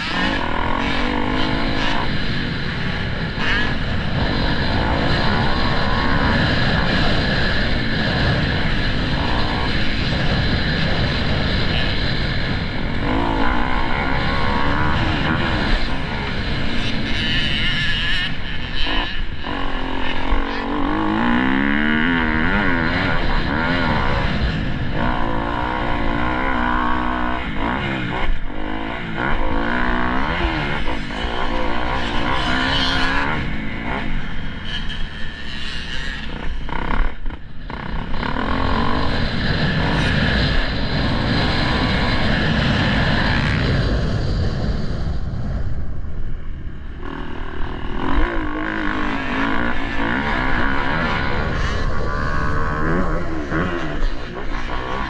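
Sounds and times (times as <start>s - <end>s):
dirt bike engine revving: 0.0s - 55.0s
wind noise: 0.0s - 55.0s.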